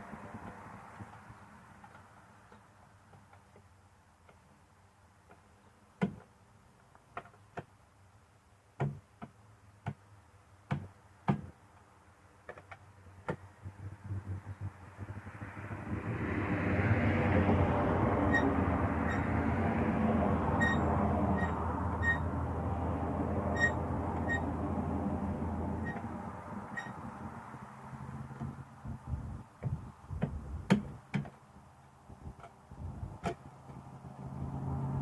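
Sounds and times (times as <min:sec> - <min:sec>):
steady noise with low hum: 0:00.0 - 0:35.0.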